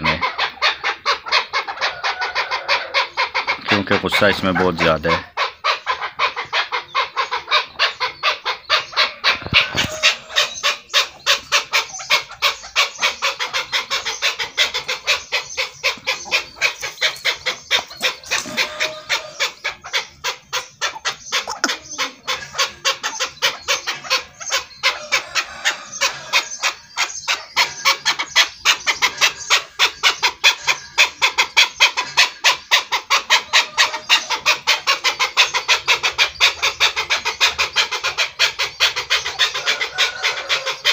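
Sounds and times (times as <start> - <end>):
partridge clucking call: 0.0 - 40.9.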